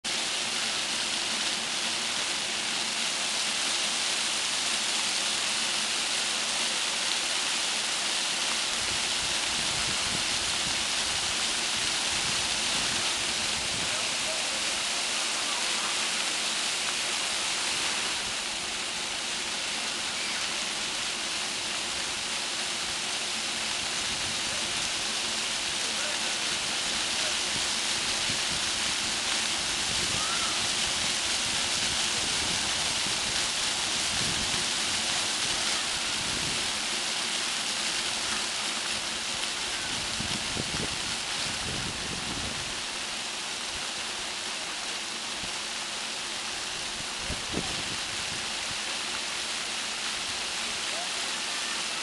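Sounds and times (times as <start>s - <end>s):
fountain water splashing: 0.0s - 52.0s.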